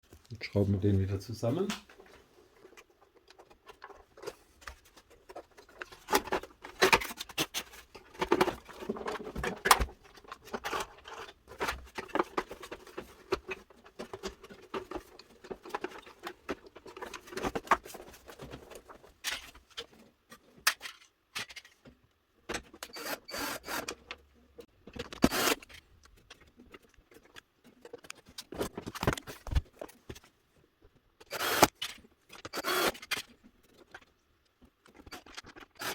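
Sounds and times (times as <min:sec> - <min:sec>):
plastic parts clicking and scraping: 0:01.5 - 0:35.9.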